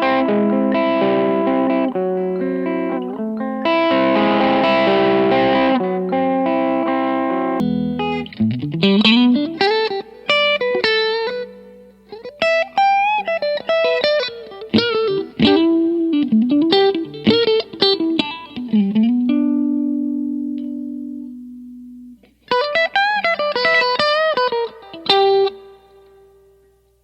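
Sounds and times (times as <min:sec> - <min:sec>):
electric guitar lead lick: 0:00.0 - 0:26.6.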